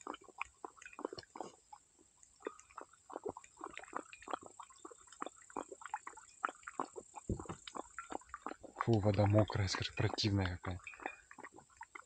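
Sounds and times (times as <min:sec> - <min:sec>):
animal lapping water from metal bowl: 0:00.0 - 0:12.0.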